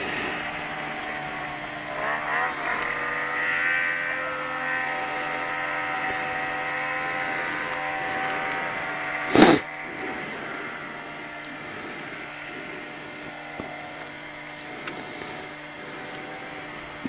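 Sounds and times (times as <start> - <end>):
distant snowmobile engine drone: 0.0 - 17.0.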